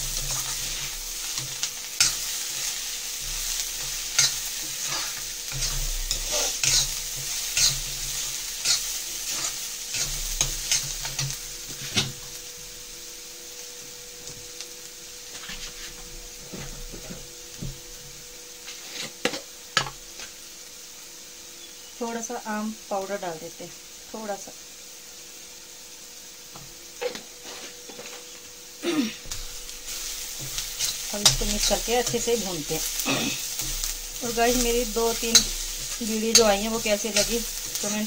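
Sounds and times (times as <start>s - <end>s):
onions sizzling: 0.0s - 38.0s.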